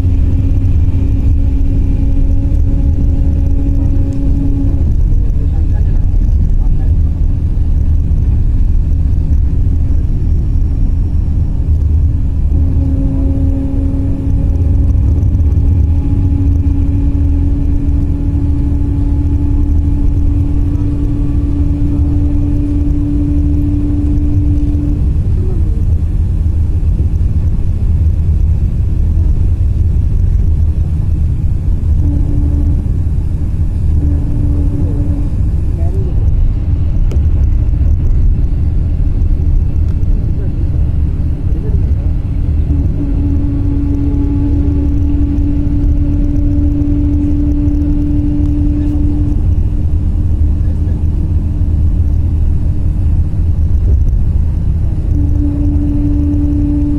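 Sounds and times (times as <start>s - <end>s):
engine and tyre rumble: 0.0s - 56.9s
steady hum: 0.0s - 56.9s.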